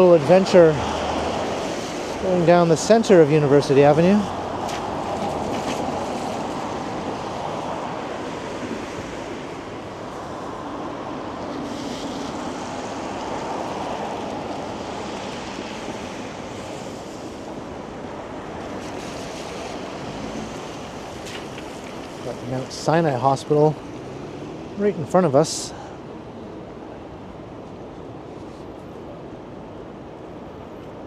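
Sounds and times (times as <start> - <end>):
car tyres rushing past: 0.0 - 28.7.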